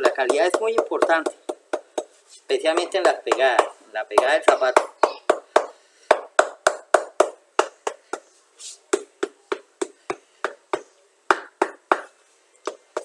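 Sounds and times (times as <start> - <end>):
hammer tapping shoe sole: 0.0 - 2.1, 2.7 - 8.3, 8.9 - 12.1, 12.7 - 13.0.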